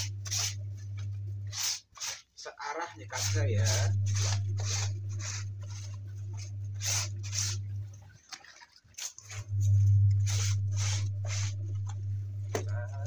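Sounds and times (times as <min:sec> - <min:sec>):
steady low hum: 0:00.0 - 0:01.7, 0:02.7 - 0:08.1, 0:09.3 - 0:13.0
brush scrubbing wet fabric: 0:00.0 - 0:13.0.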